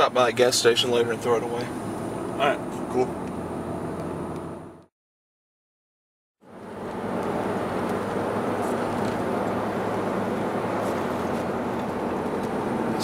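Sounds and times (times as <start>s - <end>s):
car road and engine noise: 0.0s - 4.9s, 6.4s - 13.0s.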